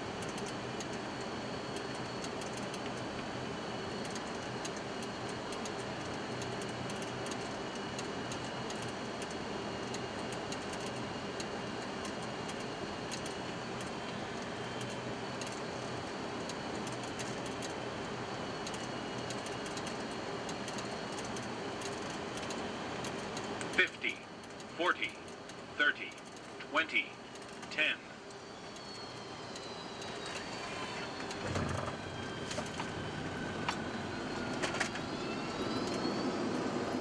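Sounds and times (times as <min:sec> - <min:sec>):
jet engine high whine: 0:00.0 - 0:37.0.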